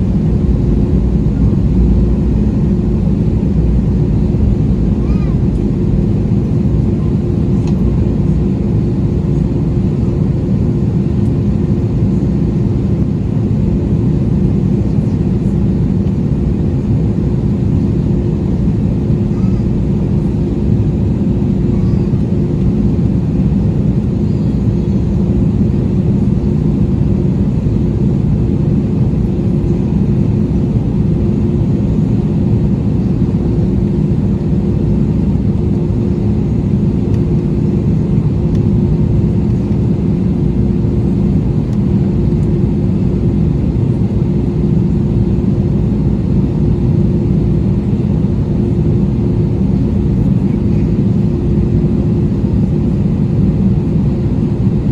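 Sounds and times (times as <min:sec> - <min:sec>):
airplane cabin engine rumble: 0:00.0 - 0:54.9.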